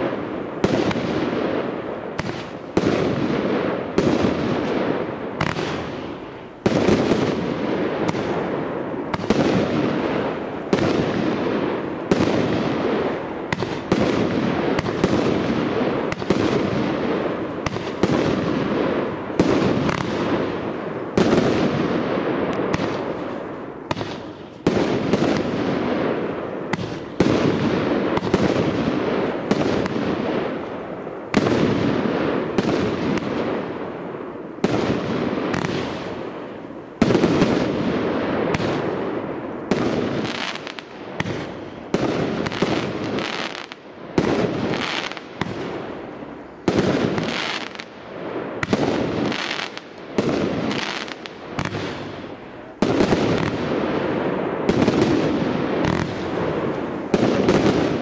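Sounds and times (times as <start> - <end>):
firework shells exploding: 0.0 - 58.0.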